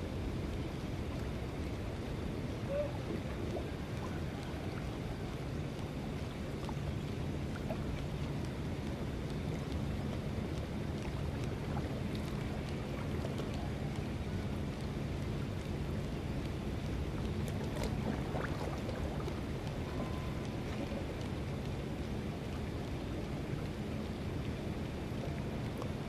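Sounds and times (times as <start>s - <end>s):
faint engine hum: 0.0s - 26.0s
low rumble of wind and water: 0.0s - 26.0s.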